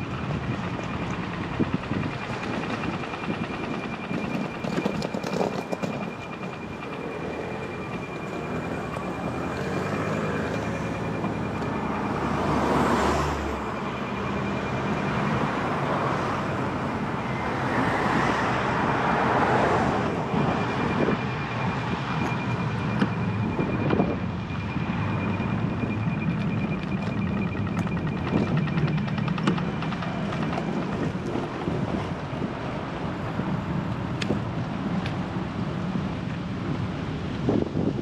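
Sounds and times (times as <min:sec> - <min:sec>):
motor vehicles passing close: 0:00.0 - 0:38.0
road noise: 0:00.0 - 0:38.0.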